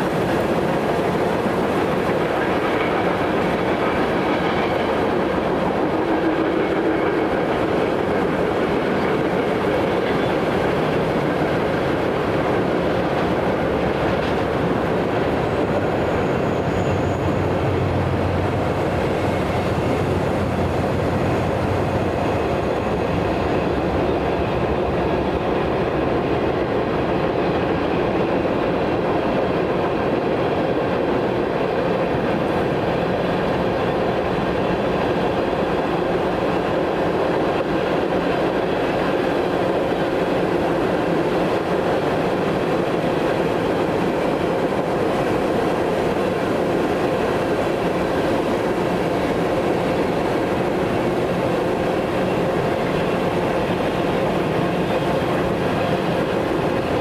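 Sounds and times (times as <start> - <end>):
train wheels rolling on track: 0.0 - 57.0.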